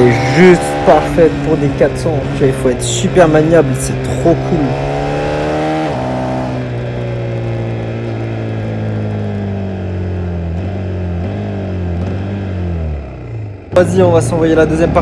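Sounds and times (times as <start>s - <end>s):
motorcycle engine revs: 0.0s - 15.0s.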